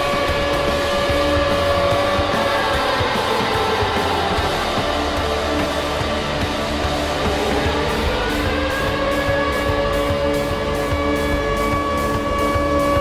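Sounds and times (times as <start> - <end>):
rock music with electric guitar: 0.0 - 13.0.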